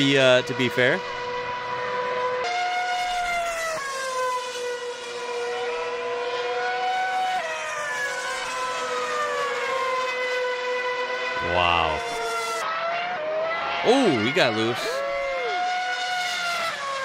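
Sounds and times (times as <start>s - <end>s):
racing car engines at high revs: 0.0s - 17.0s.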